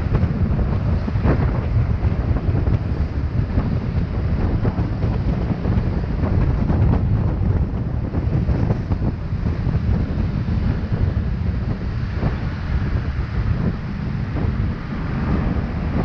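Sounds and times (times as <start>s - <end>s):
wind buffeting on microphone: 0.0s - 16.0s.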